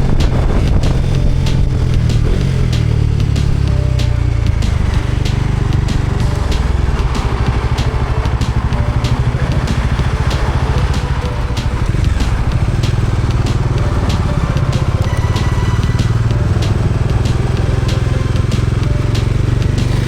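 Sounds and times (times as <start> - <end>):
motorcycle engine running: 0.0 - 20.0
sharp ticks: 0.0 - 20.0.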